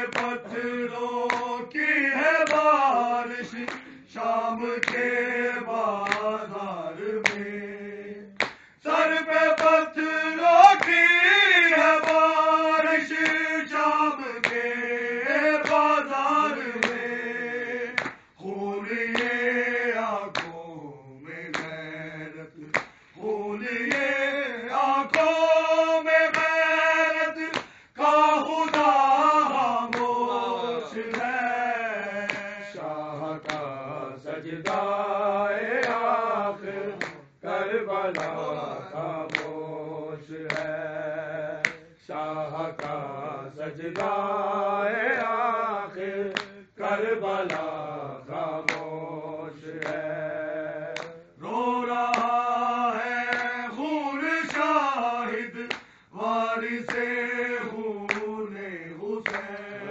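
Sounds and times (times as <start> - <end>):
men chanting: 0.0 - 59.9.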